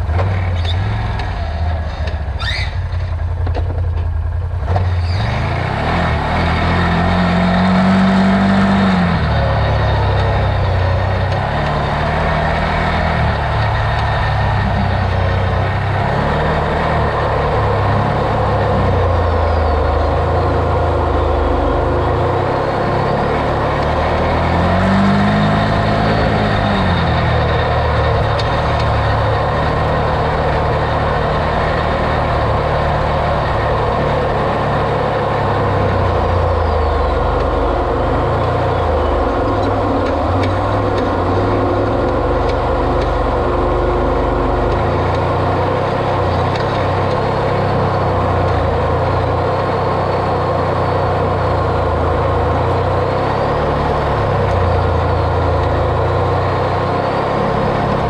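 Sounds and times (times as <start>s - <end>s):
vehicle engine driving off-road: 0.0s - 58.0s.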